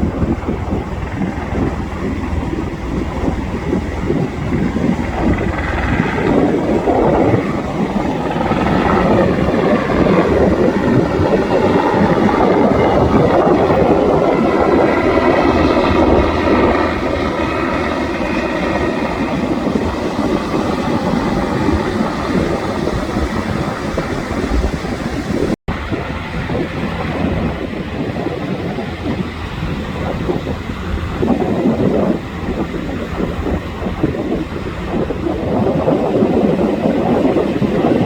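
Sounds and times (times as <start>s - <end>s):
helicopter flying past: 0.0s - 38.0s
wind on microphone: 0.0s - 38.0s.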